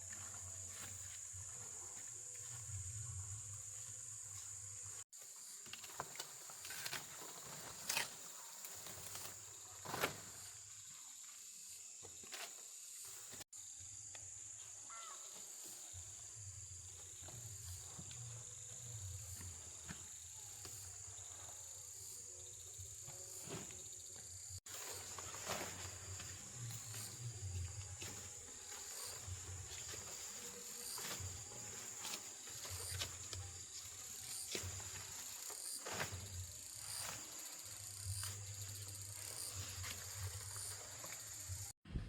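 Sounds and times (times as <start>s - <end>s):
high-pitched insect chorus: 0.0s - 41.7s.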